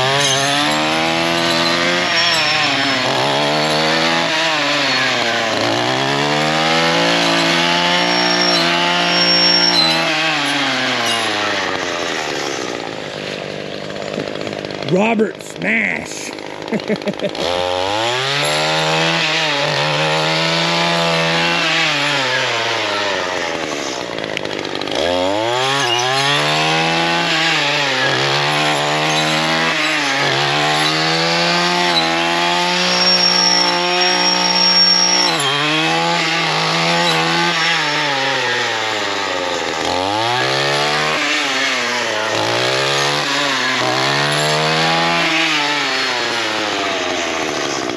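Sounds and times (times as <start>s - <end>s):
saw blade cutting brush: 0.0s - 14.9s, 16.3s - 47.9s
string trimmer engine revving: 0.0s - 47.9s.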